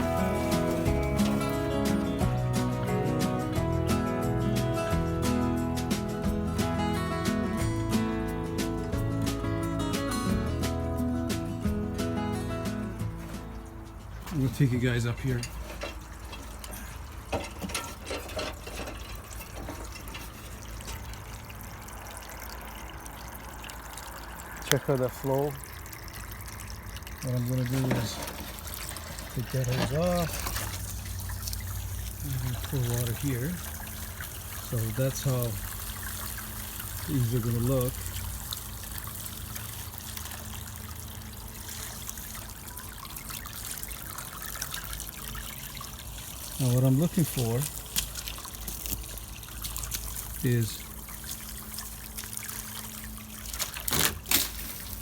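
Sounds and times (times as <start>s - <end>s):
water trickling along gutter: 0.0s - 55.0s.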